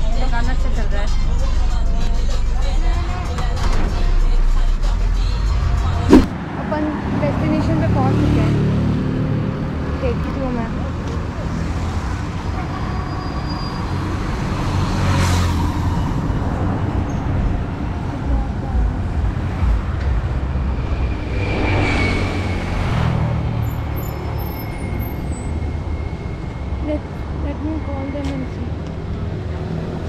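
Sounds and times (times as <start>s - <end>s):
low traffic rumble: 5.2s - 30.0s
vehicles passing close by: 5.2s - 30.0s.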